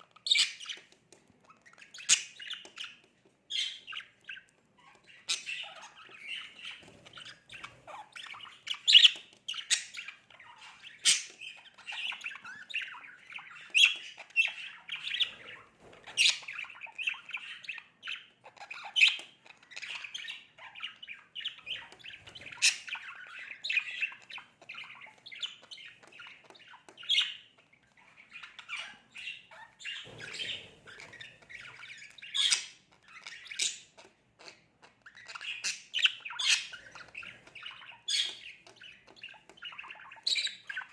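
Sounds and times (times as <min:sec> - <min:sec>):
budgerigar warbling and chattering: 0:01.5 - 0:40.9.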